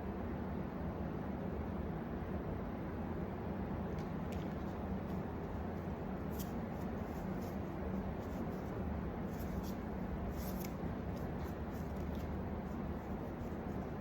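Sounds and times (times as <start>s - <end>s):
room and microphone hum: 0.0s - 14.0s.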